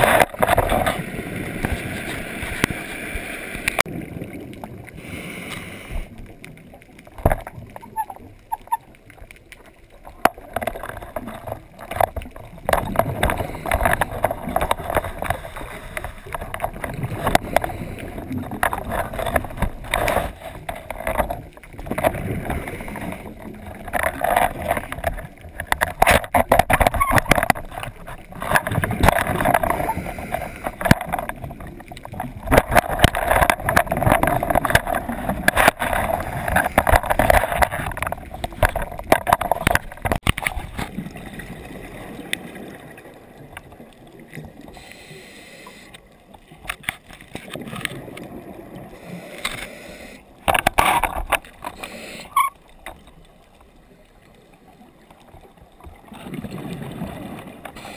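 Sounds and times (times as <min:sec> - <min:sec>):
underwater exhaled bubbles: 0:00.0 - 0:57.9.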